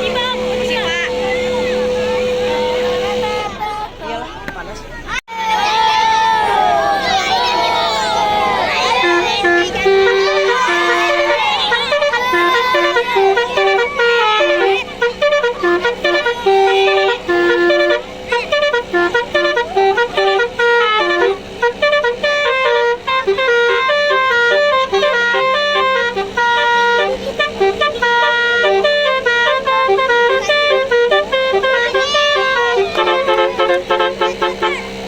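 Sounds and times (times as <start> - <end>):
musical bus horn melody: 0.0 - 4.0, 7.0 - 35.0.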